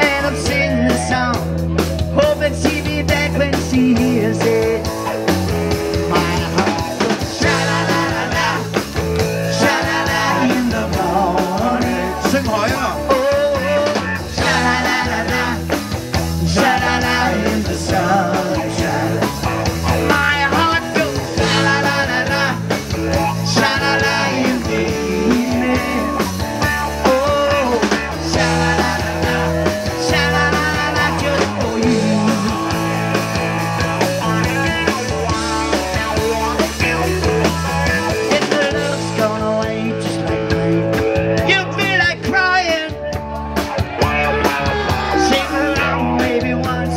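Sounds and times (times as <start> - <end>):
bass guitar: 0.0 - 46.9
drum kit: 0.0 - 46.9
electric guitar: 0.0 - 46.9.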